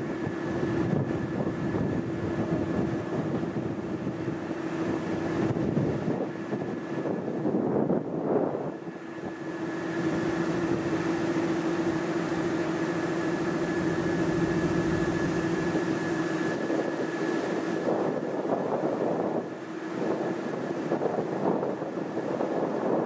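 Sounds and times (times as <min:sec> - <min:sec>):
high steady whine: 0:00.0 - 0:23.0
locomotive engine hum: 0:00.0 - 0:23.0.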